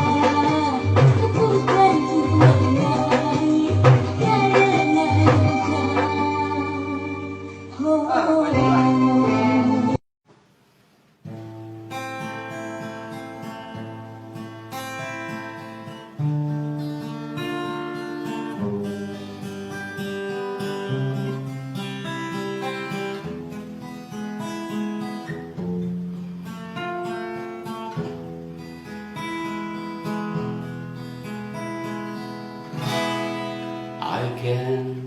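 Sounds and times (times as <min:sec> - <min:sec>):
strummed acoustic guitar chords: 0:00.0 - 0:07.7, 0:11.2 - 0:35.0.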